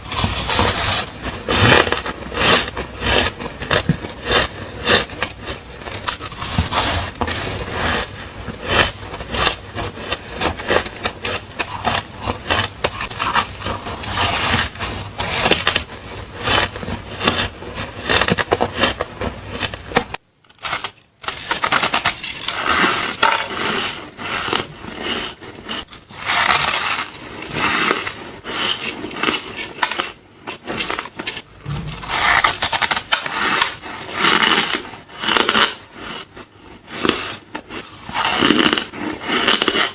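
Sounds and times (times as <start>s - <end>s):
ice crunching while chewed: 0.1s - 39.9s.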